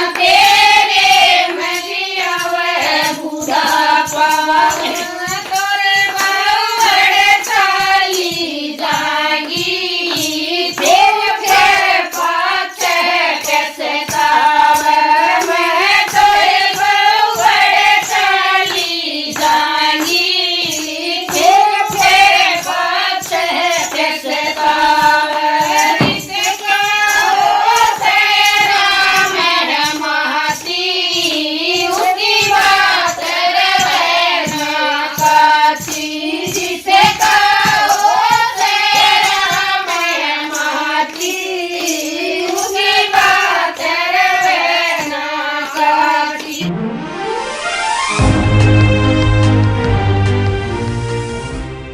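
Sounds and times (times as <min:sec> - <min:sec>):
hand-clapping beat: 0:00.0 - 0:46.7
person singing devotional song: 0:00.0 - 0:46.7.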